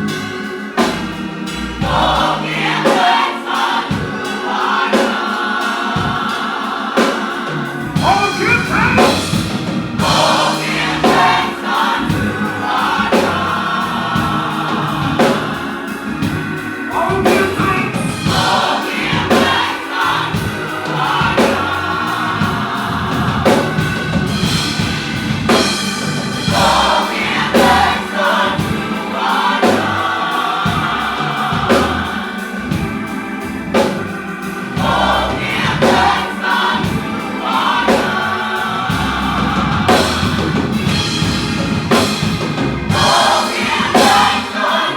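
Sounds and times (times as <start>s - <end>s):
backing band drums bass keyboard: 0.0s - 44.9s
gospel choir singing: 0.0s - 44.9s.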